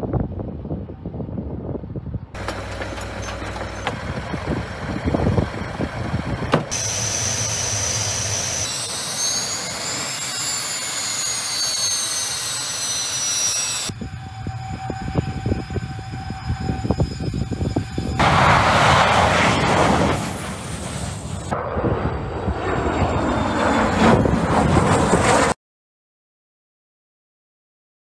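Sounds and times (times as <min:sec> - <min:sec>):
distant jet: 0:02.2 - 0:25.6
jet engines roaring: 0:02.4 - 0:25.6.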